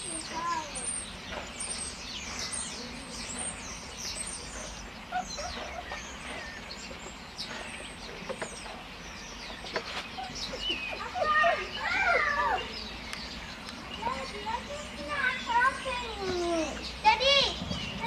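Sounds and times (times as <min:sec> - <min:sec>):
small birds chirping and singing: 0:00.0 - 0:18.0.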